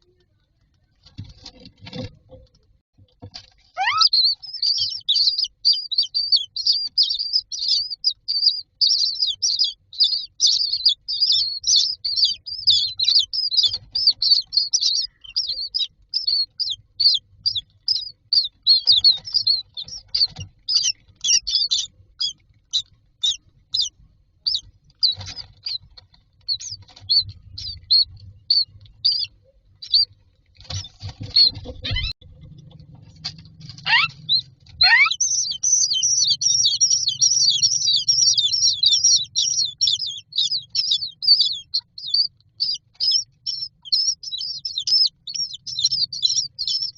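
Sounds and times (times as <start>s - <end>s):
chicks chirping begging calls: 3.4s - 46.9s.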